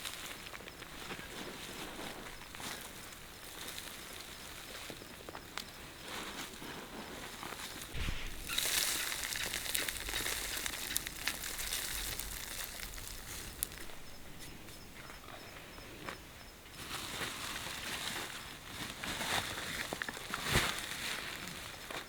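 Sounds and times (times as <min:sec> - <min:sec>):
rustling and crinkling handling noise: 0:00.0 - 0:16.2, 0:16.8 - 0:22.0.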